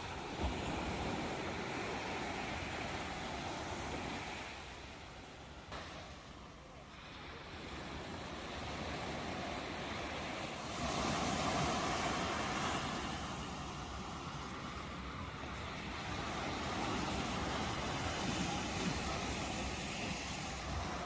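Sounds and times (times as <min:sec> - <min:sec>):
sea waves washing onto shore: 0:00.0 - 0:21.0.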